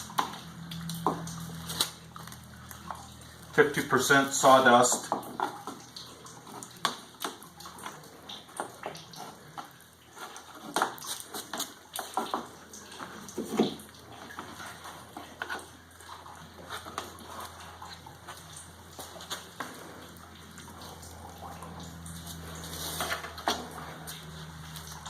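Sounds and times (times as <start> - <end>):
wet pulp sloshing and slapping: 0.0 - 25.0.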